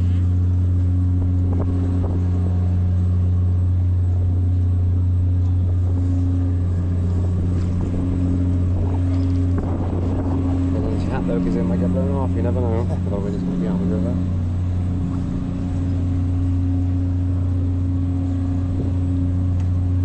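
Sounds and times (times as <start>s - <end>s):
ferry engine droning: 0.0s - 20.0s.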